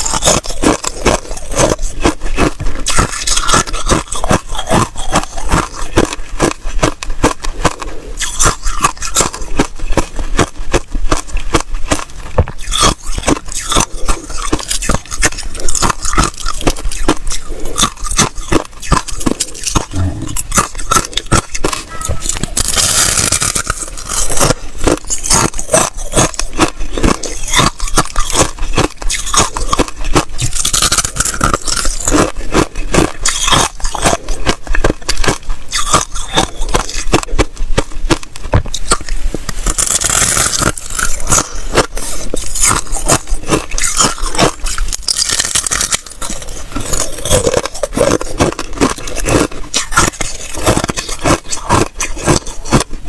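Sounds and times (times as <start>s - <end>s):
person crunching ice: 0.0s - 53.0s.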